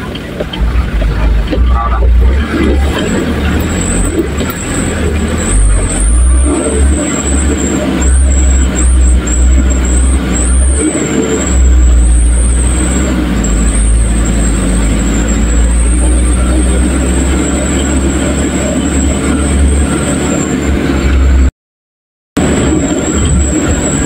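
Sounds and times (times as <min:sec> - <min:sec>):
vehicle engine rumble: 0:00.0 - 0:21.5, 0:22.4 - 0:24.0.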